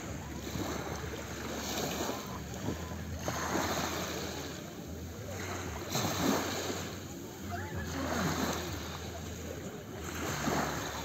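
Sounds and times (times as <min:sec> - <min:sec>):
sea washing at shoreline: 0:00.0 - 0:11.0.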